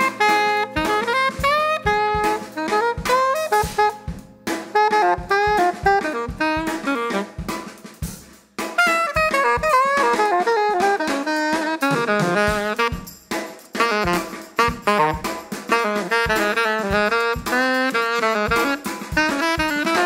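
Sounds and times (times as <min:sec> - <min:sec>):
saxophone melody: 0:00.0 - 0:08.0, 0:08.7 - 0:20.0
drum kit hits: 0:00.0 - 0:20.0
jazz-funk band playing: 0:00.0 - 0:20.0.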